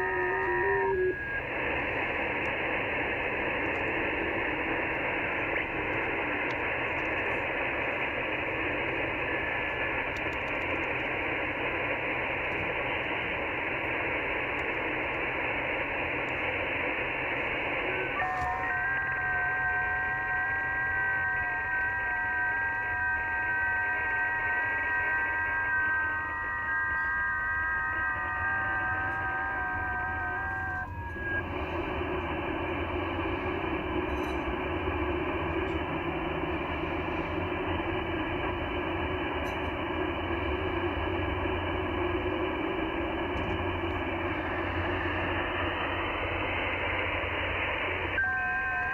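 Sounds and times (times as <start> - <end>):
faint data tones: 0.0 - 48.9
low hum: 0.0 - 48.9
radio static hiss: 0.0 - 48.9.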